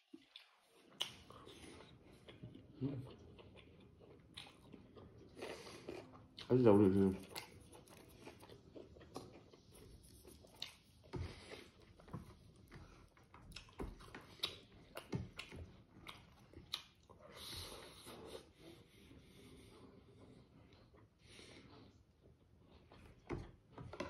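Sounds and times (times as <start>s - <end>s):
close chewing: 0.0s - 24.0s.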